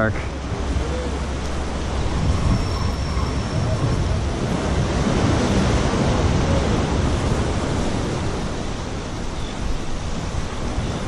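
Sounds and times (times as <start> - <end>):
choppy sea surf: 0.0 - 11.0
wind buffeting microphone: 0.0 - 11.0.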